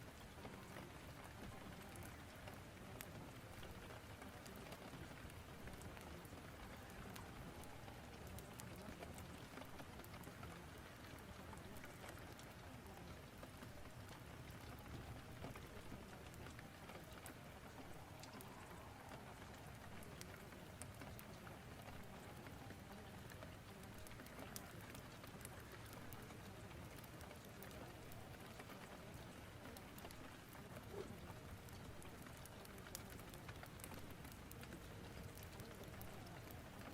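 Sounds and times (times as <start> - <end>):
fireplace crackling: 0.0 - 36.9
rain storm: 0.0 - 36.9.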